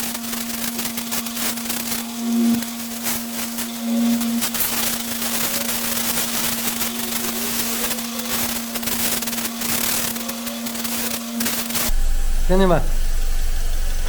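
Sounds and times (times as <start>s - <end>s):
machine humming: 0.0s - 14.0s
pressure washer jet hissing: 0.0s - 14.0s.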